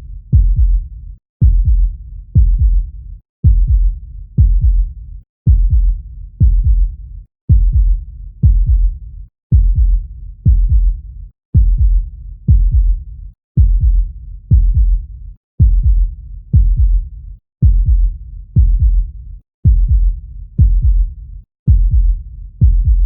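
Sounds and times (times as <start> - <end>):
heartbeat: 0.0 - 23.0.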